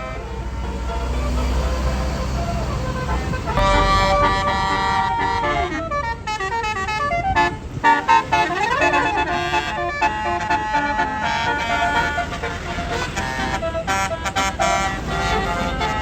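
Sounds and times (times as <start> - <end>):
musical bus horn melody: 0.0 - 16.0.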